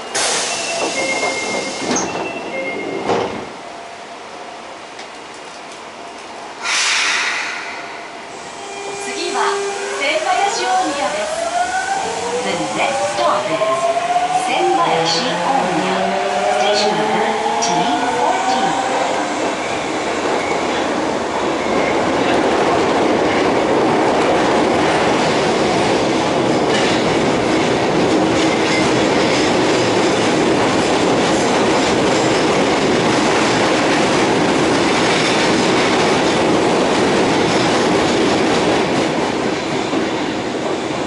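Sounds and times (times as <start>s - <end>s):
rail joints clickety-clack: 0.0s - 3.6s, 4.8s - 7.7s, 9.0s - 41.0s
subway train wheels rumbling: 0.0s - 41.0s.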